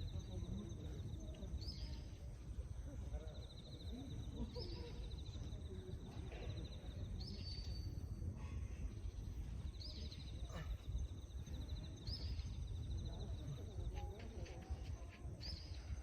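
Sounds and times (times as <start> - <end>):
bird song with trill: 0.0 - 16.0
low outdoor rumble: 0.0 - 16.0.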